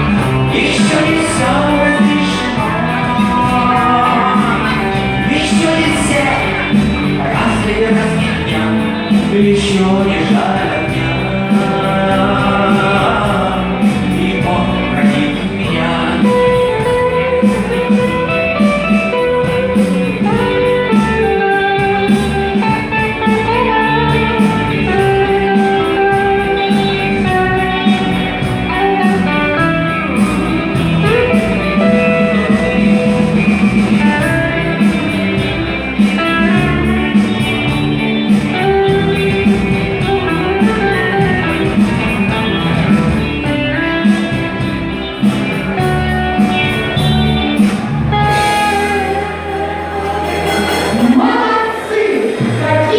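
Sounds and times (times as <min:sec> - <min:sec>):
electric guitar lead melody: 0:00.0 - 0:52.9
rock band backing: 0:00.0 - 0:52.9.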